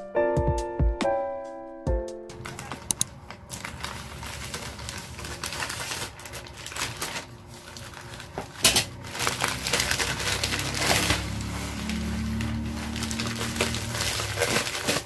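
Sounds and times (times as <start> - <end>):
plastic bag crinkling: 2.4 - 15.0.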